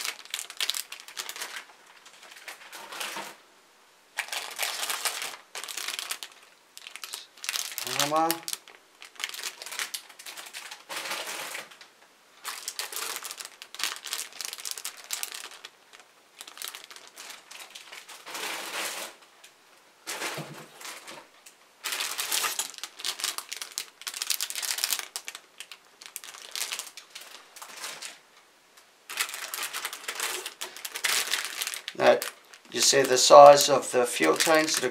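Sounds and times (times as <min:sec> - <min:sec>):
plastic bags crinkling: 0:00.0 - 0:03.4, 0:04.2 - 0:11.8, 0:12.4 - 0:19.2, 0:20.0 - 0:28.2, 0:29.1 - 0:34.9.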